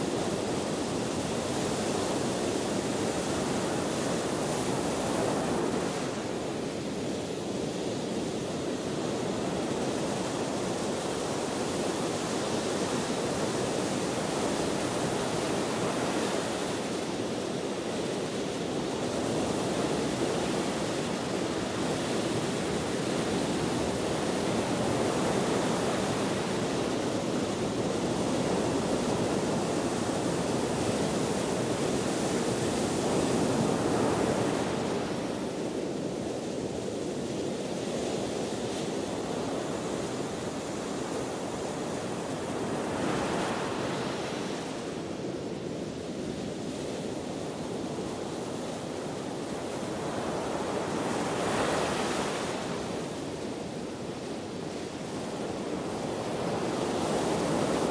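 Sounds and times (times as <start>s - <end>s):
ocean waves washing onto shore: 0.0s - 57.9s
wind: 0.0s - 57.9s.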